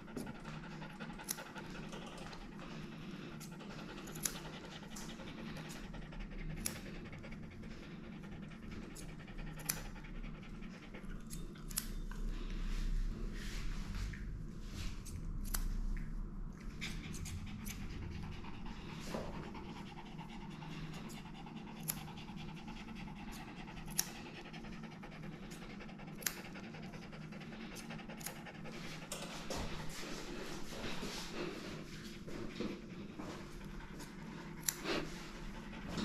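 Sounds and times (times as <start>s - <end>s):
dog panting rapidly: 0.0s - 15.1s, 16.6s - 36.0s
constant low hum: 0.0s - 36.0s.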